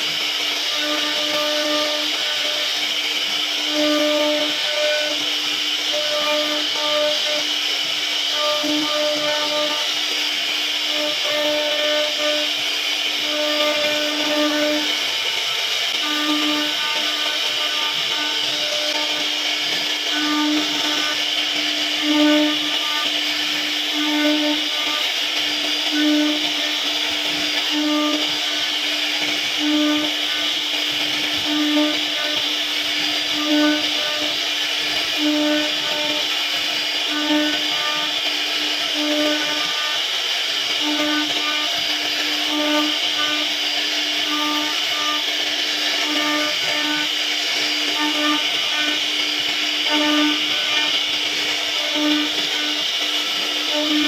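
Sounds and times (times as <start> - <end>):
bit cutting wood hiss: 0.0 - 54.0
router spindle high hum: 0.0 - 54.0.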